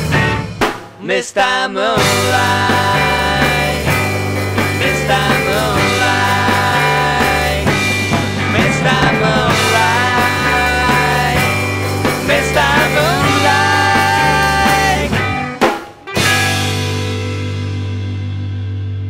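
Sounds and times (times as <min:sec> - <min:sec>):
electric guitars: 0:00.0 - 0:00.7, 0:02.0 - 0:19.0
bass guitar: 0:00.0 - 0:00.8, 0:02.0 - 0:19.0
drums: 0:00.0 - 0:19.0.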